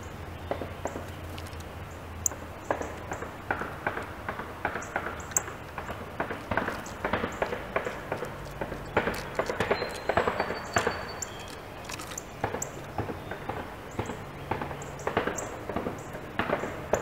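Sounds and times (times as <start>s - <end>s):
birds chirping: 0.0s - 17.0s
woodpecker tapping on wood: 0.4s - 17.0s.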